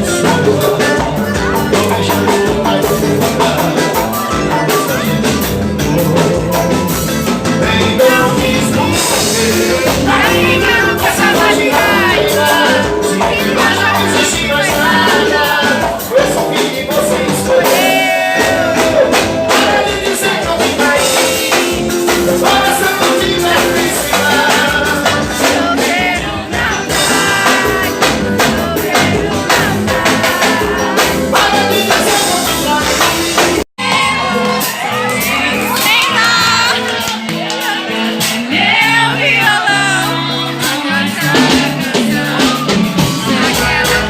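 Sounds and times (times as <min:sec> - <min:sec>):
live band with singer: 0:00.0 - 0:44.0.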